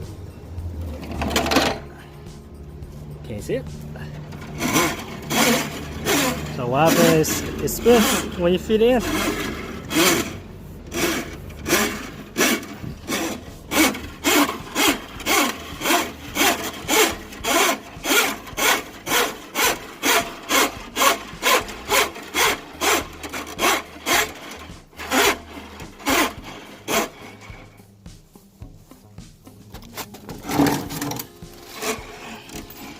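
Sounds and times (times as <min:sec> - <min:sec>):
drum spinning: 0:00.0 - 0:01.9, 0:03.7 - 0:32.9
drain snake cable rasping: 0:03.6 - 0:27.9, 0:29.6 - 0:32.9.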